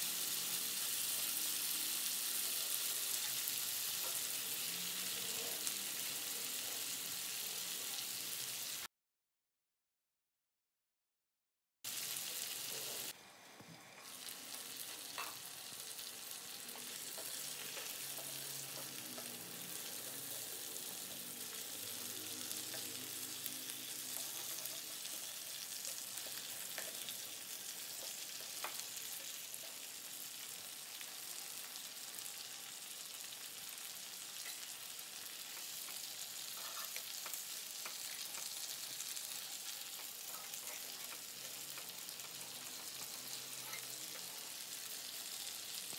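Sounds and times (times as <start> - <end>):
chicken sizzling in oil: 0.0 - 8.9, 11.9 - 45.9.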